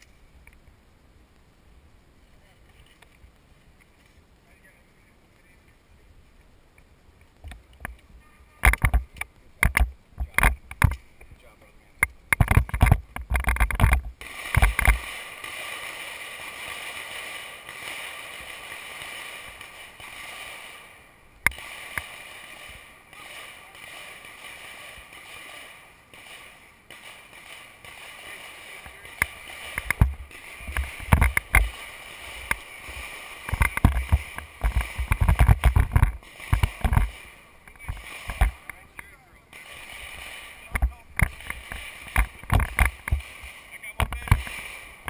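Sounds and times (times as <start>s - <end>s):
steady hiss: 0.0s - 45.0s
sharp clicks: 6.8s - 11.3s, 12.0s - 45.0s.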